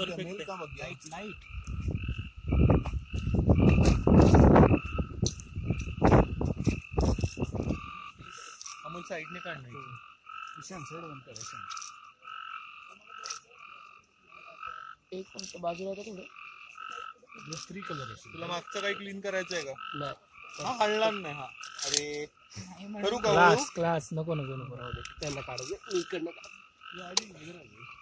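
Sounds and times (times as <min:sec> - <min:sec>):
frogs calling: 0:00.0 - 0:28.0.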